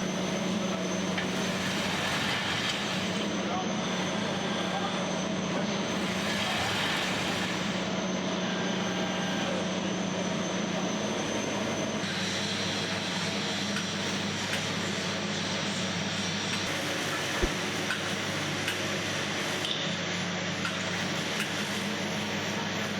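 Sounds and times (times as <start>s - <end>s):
industrial machinery hum and hiss: 0.0s - 22.9s.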